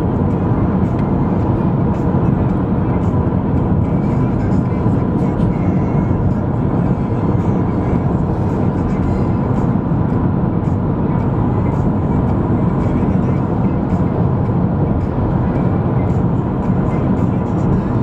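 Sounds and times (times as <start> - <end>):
car cabin road noise: 0.0 - 18.0.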